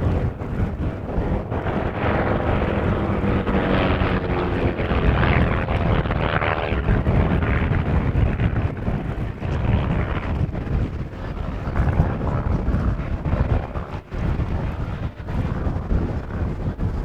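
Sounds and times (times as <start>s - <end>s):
propeller plane engines droning: 0.0s - 17.0s
wind on microphone: 0.0s - 17.0s.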